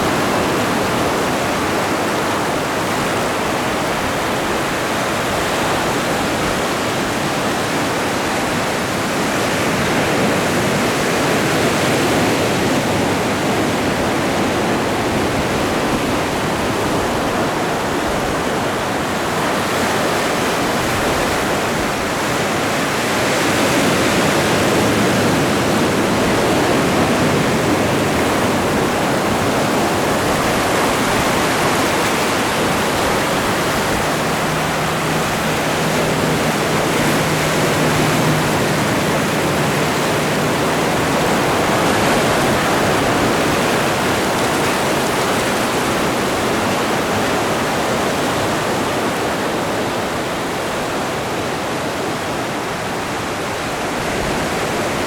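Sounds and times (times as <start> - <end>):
ocean surf breaking waves: 0.0 - 55.0.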